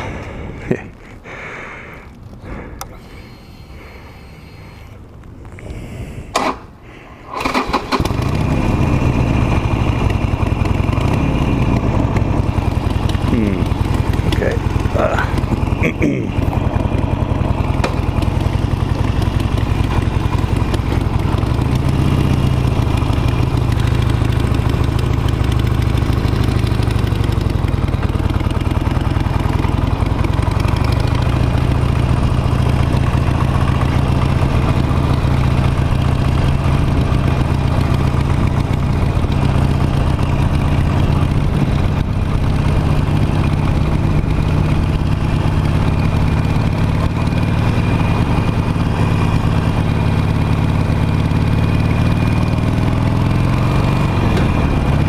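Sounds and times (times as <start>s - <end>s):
motorcycle engine running at low revs: 7.9s - 55.0s.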